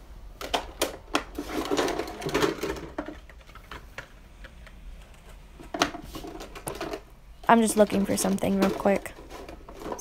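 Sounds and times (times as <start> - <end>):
clattering and rustling: 0.4 - 4.2, 5.1 - 10.0.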